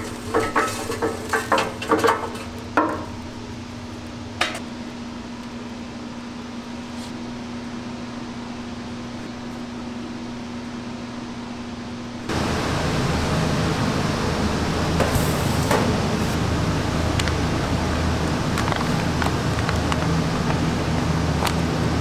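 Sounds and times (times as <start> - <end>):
ventilation fans humming: 0.0 - 22.0.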